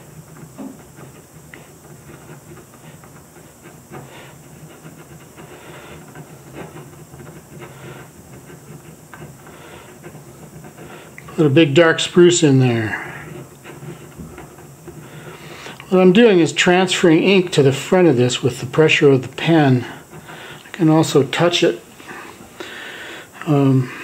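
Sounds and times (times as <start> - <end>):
ballpoint pen scratching on paper: 0.0 - 22.2
steady low hum: 0.0 - 24.0.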